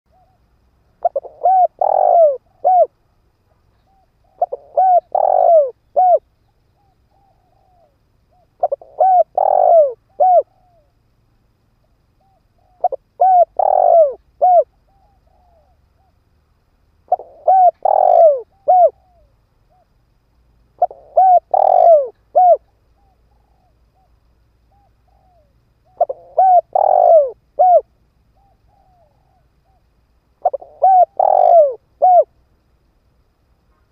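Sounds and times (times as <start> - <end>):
dove cooing: 0.1 - 3.0, 3.8 - 10.9, 12.2 - 16.1, 17.1 - 19.9, 20.8 - 32.3.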